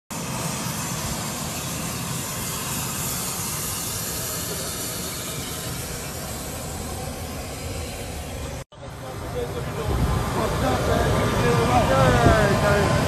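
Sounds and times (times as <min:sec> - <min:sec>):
jet engines rushing hiss: 0:00.1 - 0:13.0.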